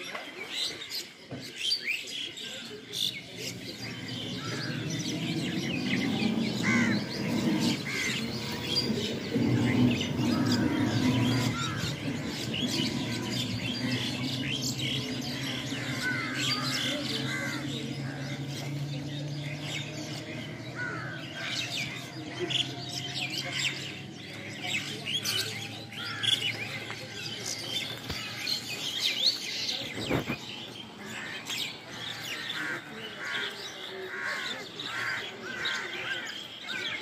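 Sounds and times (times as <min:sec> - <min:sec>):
flock of birds chirping: 0:00.0 - 0:37.0.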